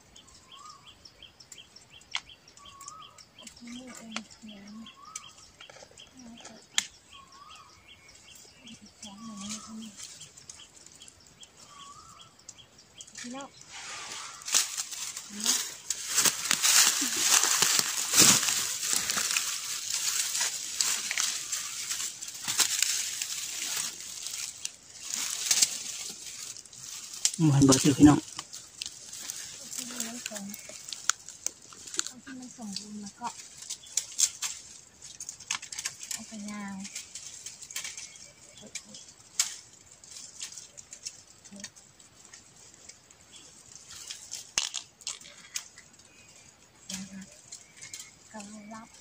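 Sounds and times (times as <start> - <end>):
dry leaves crackling underfoot: 0.0 - 49.0.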